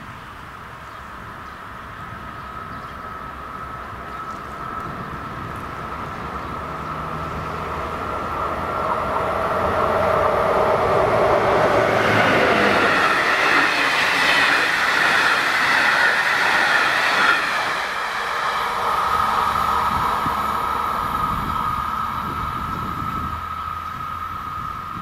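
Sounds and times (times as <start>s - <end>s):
train rumble and wheel noise: 0.0s - 25.0s.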